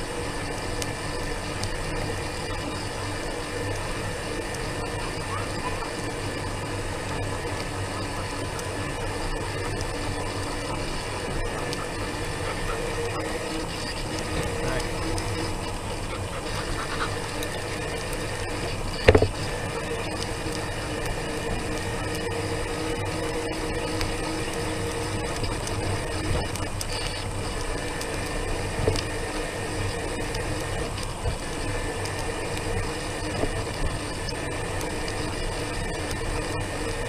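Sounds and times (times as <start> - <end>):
electric scooter drive humming: 0.0 - 37.0.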